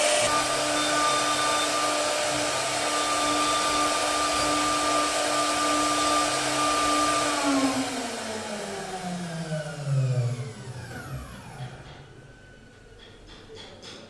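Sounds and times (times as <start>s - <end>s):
router spindle whining: 0.0s - 13.1s.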